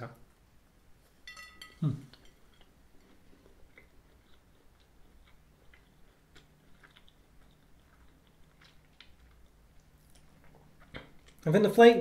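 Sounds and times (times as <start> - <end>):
faint chewing of pastry: 1.6 - 11.5.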